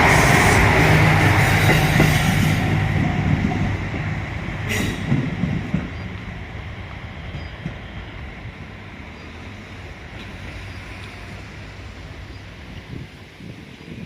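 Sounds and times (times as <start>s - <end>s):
diesel railcar rumbling: 0.0s - 14.0s.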